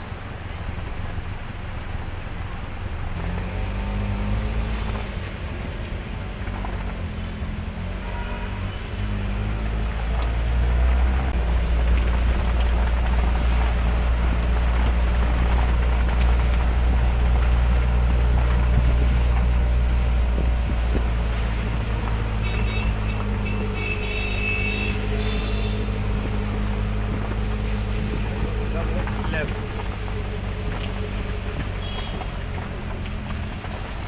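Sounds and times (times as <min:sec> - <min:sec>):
auto-rickshaw engine running: 0:00.0 - 0:34.0
rain hissing on canopy: 0:00.0 - 0:34.0.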